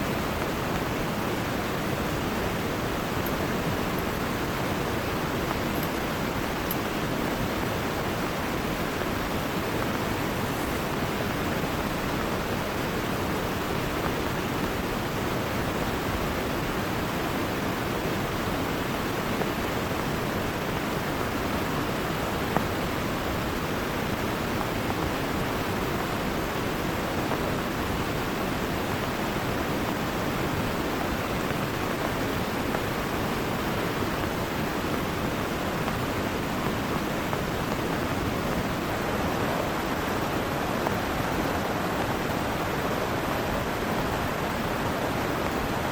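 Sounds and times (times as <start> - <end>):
heavy rain: 0.0 - 45.9
rushing river: 0.0 - 45.9.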